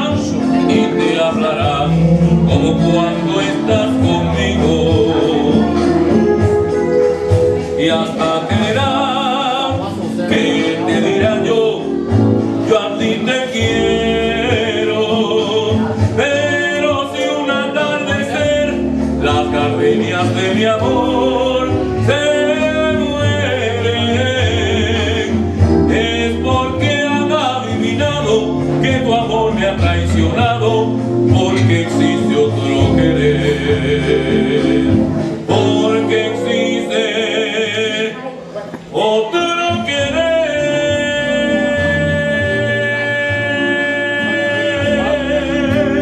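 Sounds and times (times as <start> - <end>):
instrumental accompaniment: 0.0 - 46.0
man singing operatically: 0.0 - 46.0.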